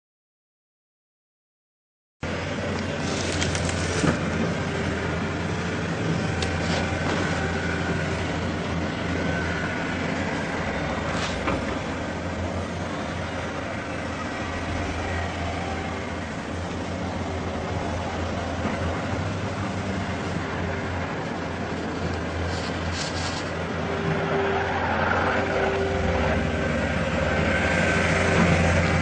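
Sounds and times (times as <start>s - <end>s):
low rumbling drone: 2.3s - 29.0s.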